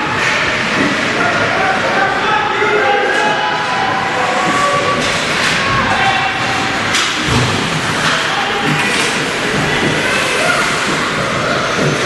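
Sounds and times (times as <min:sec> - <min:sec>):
crowd din in a hall: 0:00.0 - 0:12.0.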